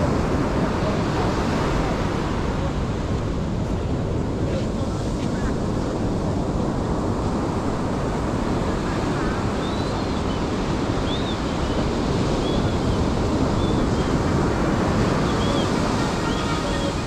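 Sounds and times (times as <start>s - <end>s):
surf washing on beach: 0.0s - 17.0s
wind buffeting microphone: 0.0s - 17.0s.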